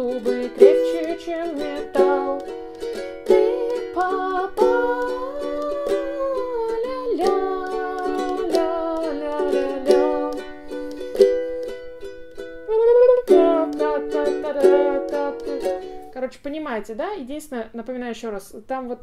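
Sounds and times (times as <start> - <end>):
ukulele strumming chords: 0.0 - 16.3.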